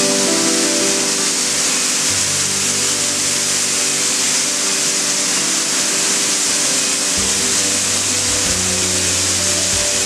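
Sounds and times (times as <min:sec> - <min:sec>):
water jets spraying hiss: 0:00.0 - 0:10.0.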